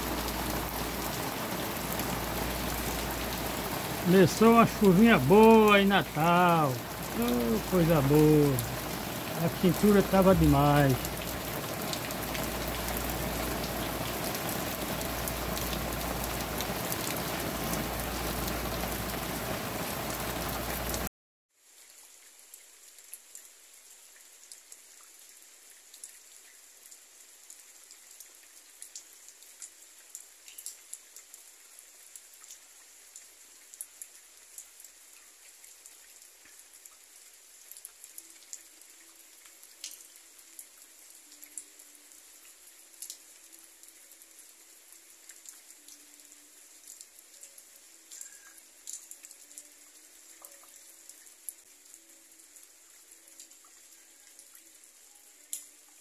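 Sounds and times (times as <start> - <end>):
rain on dirt ground: 0.0 - 56.0.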